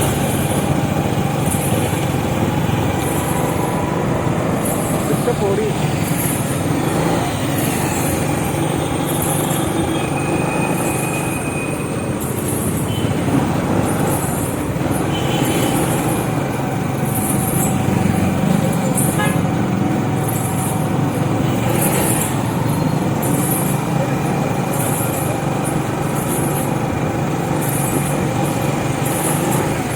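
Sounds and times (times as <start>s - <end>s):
road noise: 0.0s - 29.9s
vehicle engine running: 0.0s - 29.9s.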